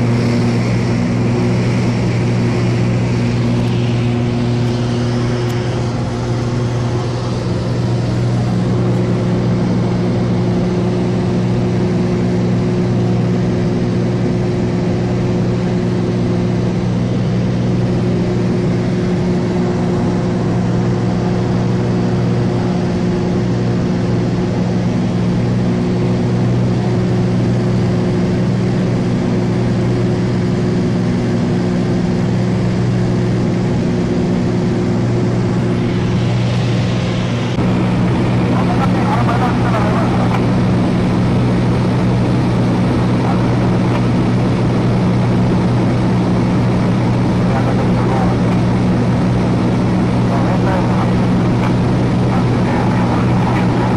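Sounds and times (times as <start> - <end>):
light aircraft engine droning: 0.0 - 53.9.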